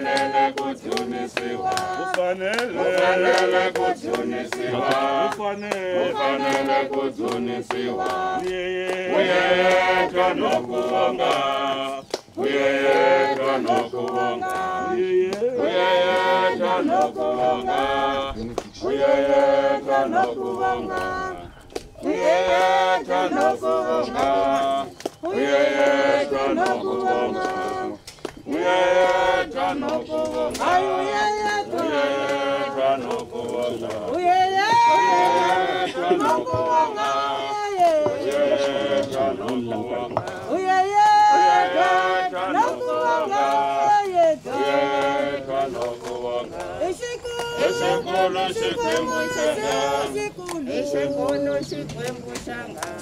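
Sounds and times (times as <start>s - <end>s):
mixed choir singing a hymn: 0.0s - 53.0s.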